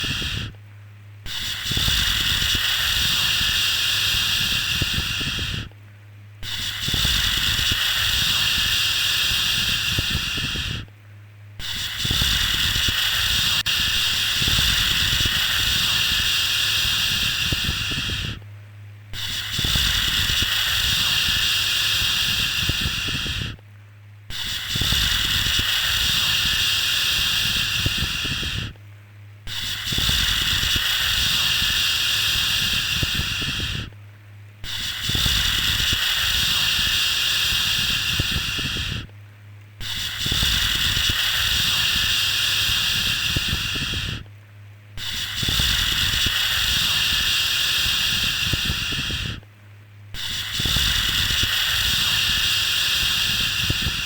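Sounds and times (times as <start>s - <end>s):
low steady hum: 0.0s - 47.3s, 48.0s - 54.0s.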